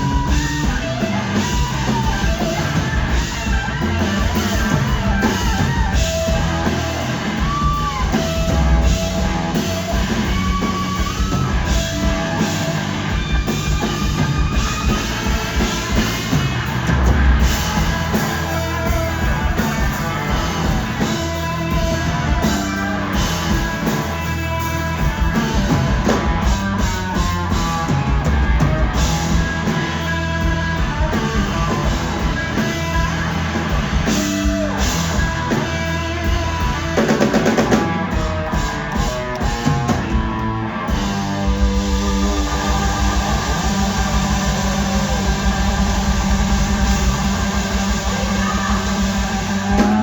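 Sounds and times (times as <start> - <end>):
bass: 0.0 - 50.0
drum kit: 0.0 - 50.0
electric guitar: 0.0 - 50.0.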